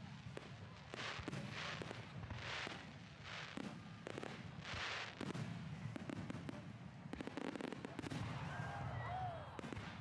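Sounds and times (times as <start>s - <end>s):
fireworks bangs with crackle: 0.0s - 8.9s, 9.5s - 10.0s.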